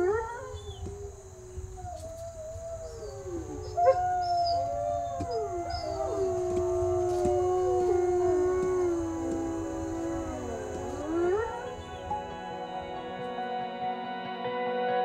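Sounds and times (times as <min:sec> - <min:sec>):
wolves howling in chorus: 0:00.0 - 0:13.8.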